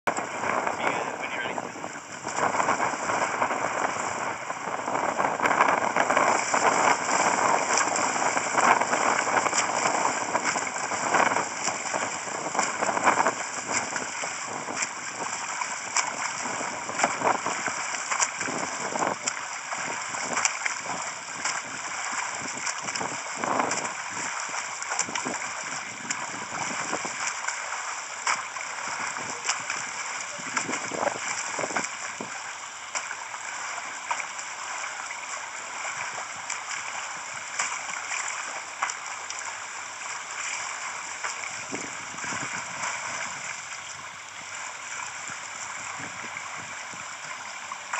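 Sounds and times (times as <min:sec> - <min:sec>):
swimmer splashing: 0:00.1 - 0:47.9.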